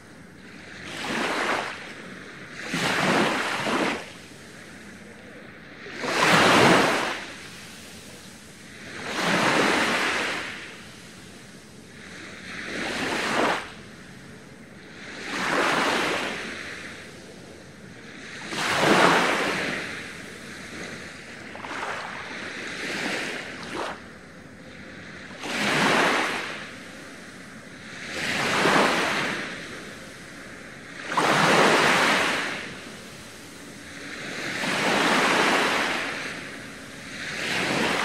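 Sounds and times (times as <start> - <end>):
waves breaking on a beach: 0.0 - 38.0.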